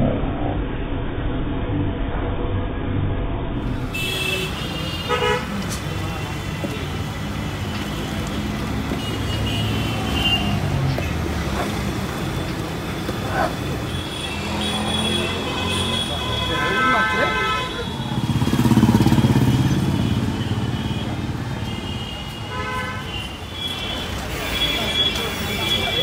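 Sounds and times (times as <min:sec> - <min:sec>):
traffic rumble: 0:03.1 - 0:26.0
vehicle horns honking: 0:03.8 - 0:26.0.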